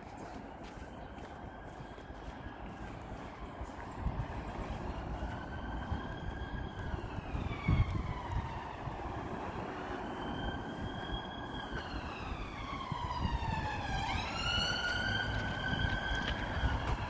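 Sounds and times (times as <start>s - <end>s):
emergency vehicle siren wailing: 0.0s - 17.0s.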